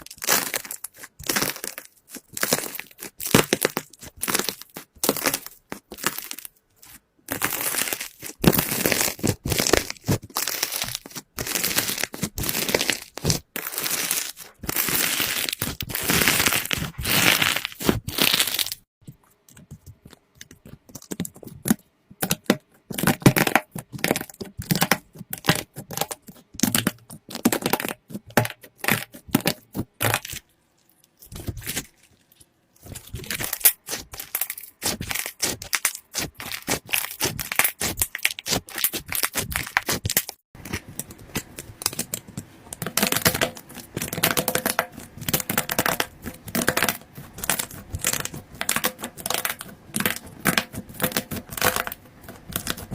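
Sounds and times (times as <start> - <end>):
slime crackling and popping: 0.0 - 18.9, 19.8 - 52.9.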